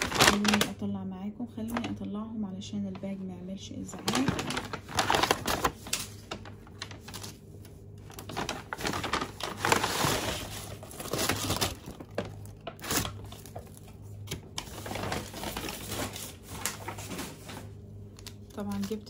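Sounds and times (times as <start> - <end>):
paper bag rustling and crinkling: 0.0 - 0.9, 1.6 - 19.0.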